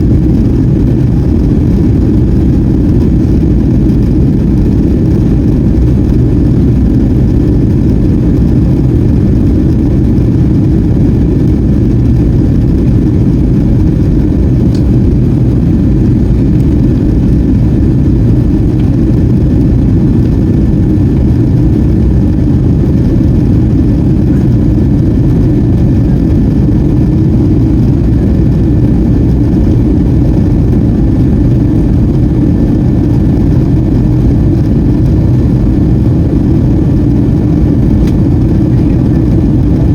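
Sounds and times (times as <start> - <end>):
airflow in aircraft cabin: 0.0 - 39.9
jet engines low rumble: 0.0 - 39.9.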